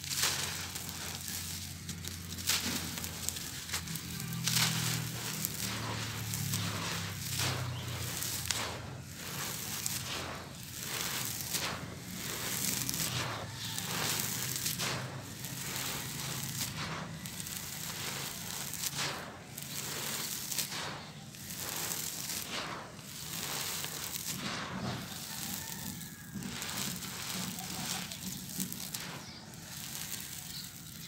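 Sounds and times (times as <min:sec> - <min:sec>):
gritty sand mix crackling: 0:00.0 - 0:31.0.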